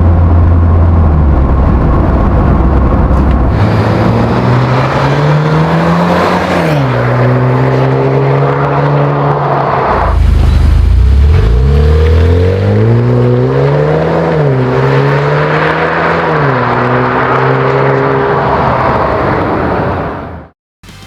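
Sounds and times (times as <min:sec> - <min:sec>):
car exhaust revving: 0:00.0 - 0:18.3.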